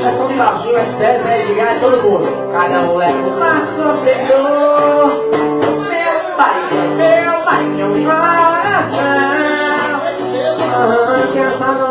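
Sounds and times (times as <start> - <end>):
strummed acoustic guitar: 0.0 - 11.9.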